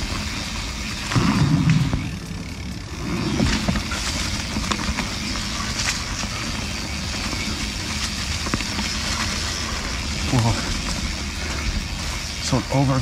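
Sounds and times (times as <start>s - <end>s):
bike clicks and rattles: 0.0s - 13.0s
wind and tyre rush: 0.0s - 13.0s.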